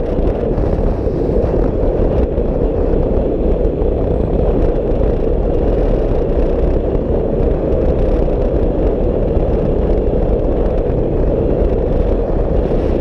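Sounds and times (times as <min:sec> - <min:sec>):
motorcycle engine drone: 0:00.0 - 0:13.0
wind rushing over microphone: 0:00.0 - 0:13.0.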